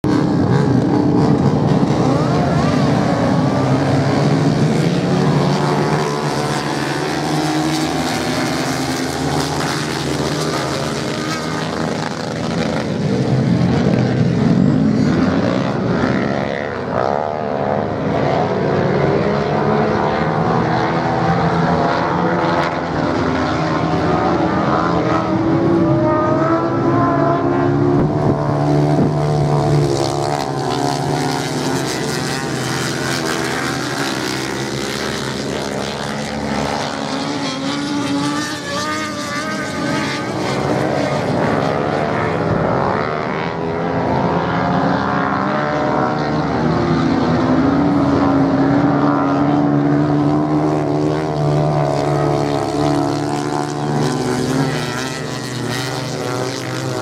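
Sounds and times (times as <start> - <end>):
racing motorcycle engines revving: 0.0 - 57.0.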